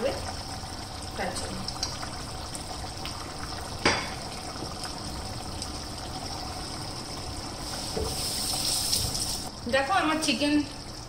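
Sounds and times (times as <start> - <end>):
curry bubbling in pot: 0.0 - 11.0.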